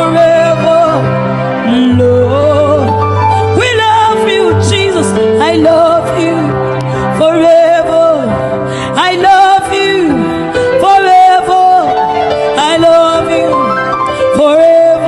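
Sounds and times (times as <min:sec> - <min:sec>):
person singing: 0:00.0 - 0:15.0
sliding melodic notes: 0:00.0 - 0:15.0.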